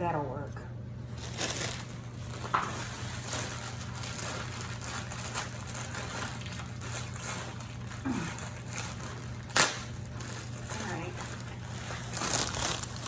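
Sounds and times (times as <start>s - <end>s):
plastic rustling and crinkling: 1.1s - 13.0s.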